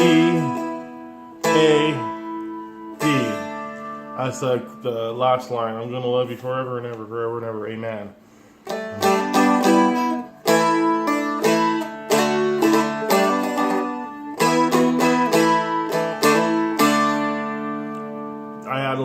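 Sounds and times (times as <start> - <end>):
fretted string instrument strummed: 0.0 - 7.0, 8.6 - 19.0
picked melody: 0.0 - 8.0, 8.6 - 19.0.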